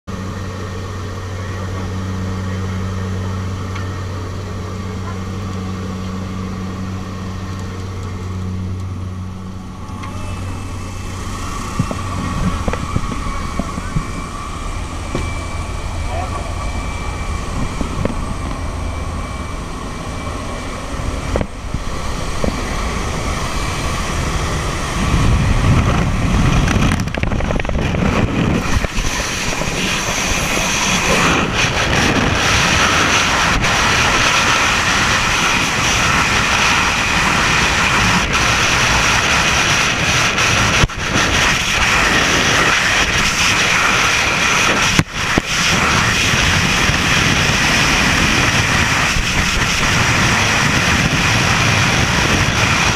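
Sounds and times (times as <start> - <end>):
light aircraft engine: 0.0 - 52.9
wind blasting across microphone: 10.2 - 52.9.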